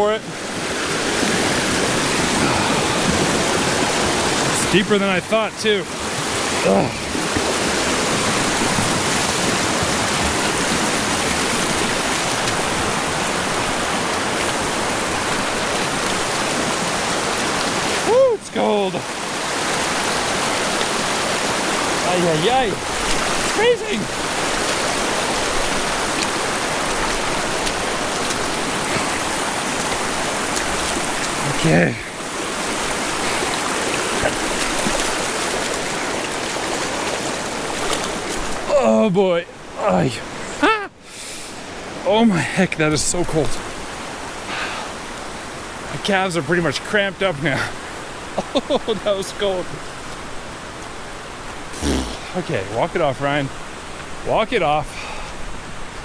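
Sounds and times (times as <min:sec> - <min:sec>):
mountain creek rushing: 0:00.0 - 0:56.0.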